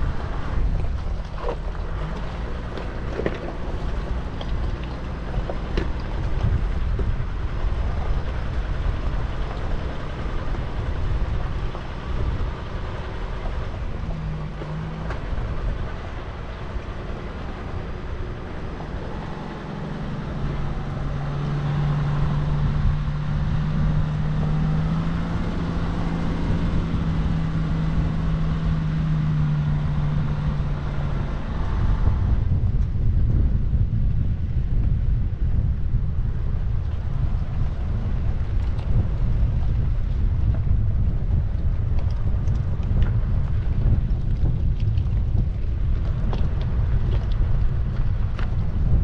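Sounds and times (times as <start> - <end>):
vehicle engine rumbling: 0.0 - 49.0.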